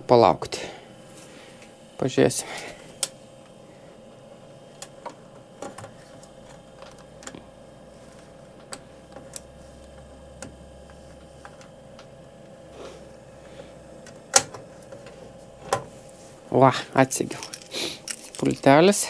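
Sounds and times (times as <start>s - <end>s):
air heater humming: 0.0s - 19.0s.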